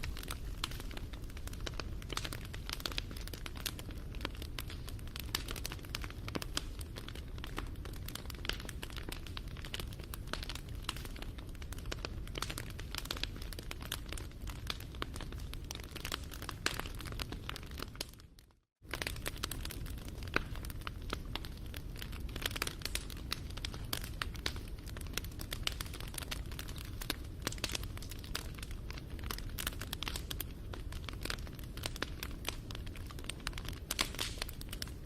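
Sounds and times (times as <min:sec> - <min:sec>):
campfire crackling and popping: 0:00.0 - 0:35.0
low rumble of flames: 0:00.0 - 0:35.0.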